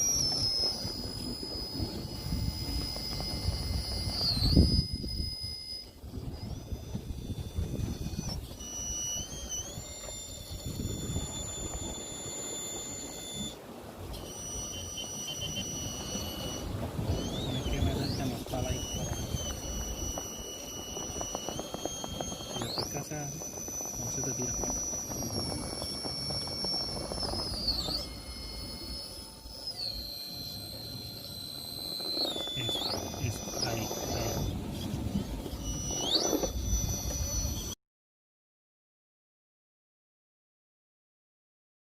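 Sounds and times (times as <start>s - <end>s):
low rumbling noise: 0.0s - 37.7s
electric motor whine: 0.0s - 37.8s.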